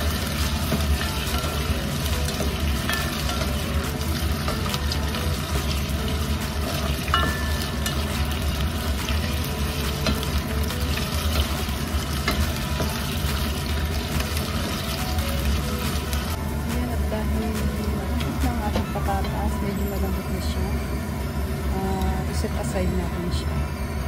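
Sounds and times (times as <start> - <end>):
potato wedges sizzling in oil: 0.0 - 20.8.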